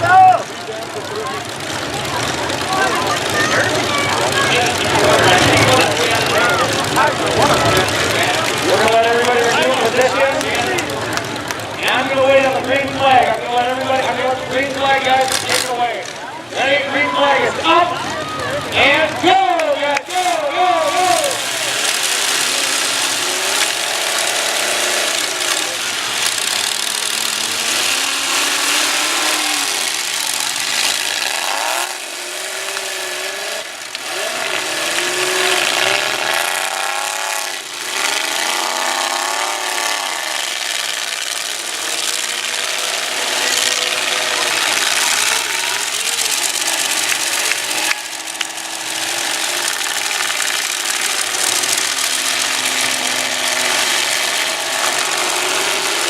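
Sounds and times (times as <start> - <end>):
truck engines revving hard: 0.0 - 56.0.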